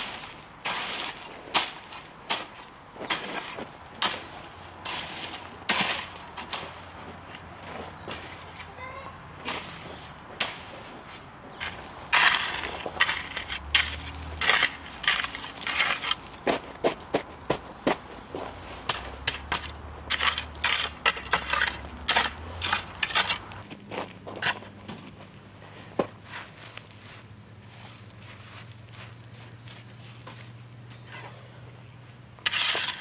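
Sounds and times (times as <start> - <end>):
rake scraping through gravel: 0.0 - 8.8, 9.4 - 24.8, 25.7 - 33.0.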